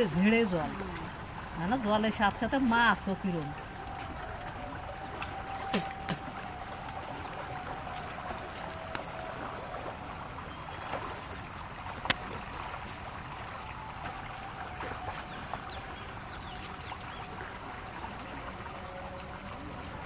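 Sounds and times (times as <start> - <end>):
canal water flowing: 0.0 - 20.0.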